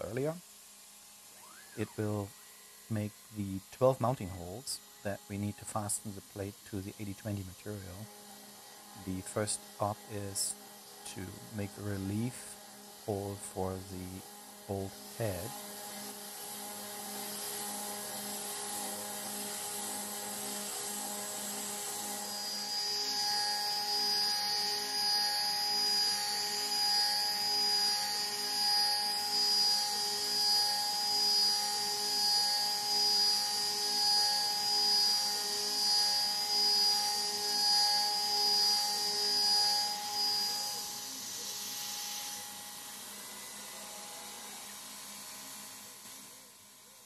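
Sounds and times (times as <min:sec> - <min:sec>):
router spindle whine: 0:00.0 - 0:47.0
end mill cutting aluminum: 0:07.8 - 0:46.4.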